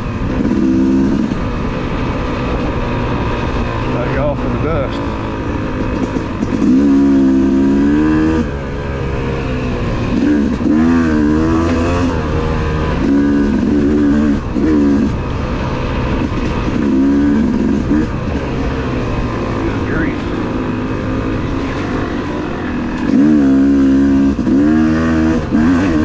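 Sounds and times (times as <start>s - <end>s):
two-stroke dirt bike engine revving: 0.0s - 26.0s.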